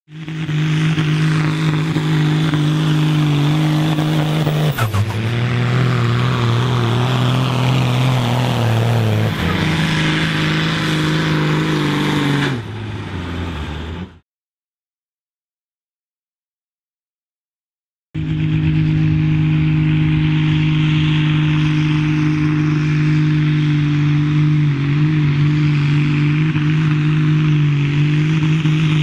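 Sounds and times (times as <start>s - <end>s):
diesel tractor engine under full load: 0.1s - 14.2s, 18.2s - 29.0s.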